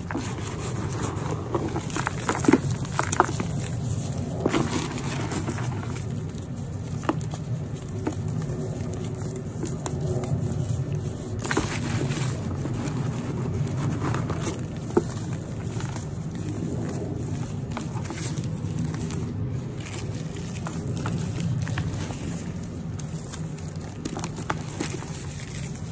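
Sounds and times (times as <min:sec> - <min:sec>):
hands crumbling powdery chunks: 0:00.0 - 0:25.9.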